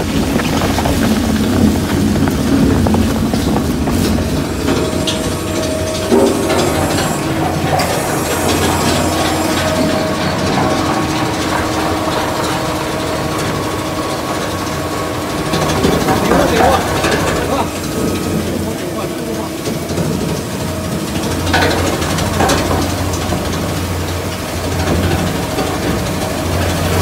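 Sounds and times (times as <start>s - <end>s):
plastic shredder running: 0.0s - 27.0s.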